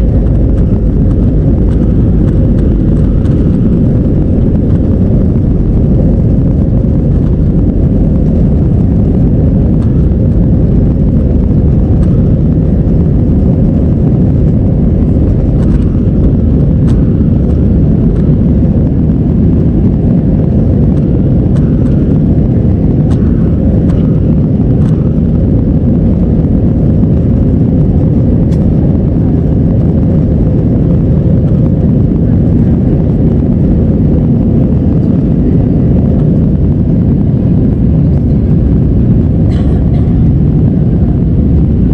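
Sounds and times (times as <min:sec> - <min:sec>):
faint steady hum: 0:00.0 - 0:41.9
jet cabin engine rumble: 0:00.0 - 0:41.9.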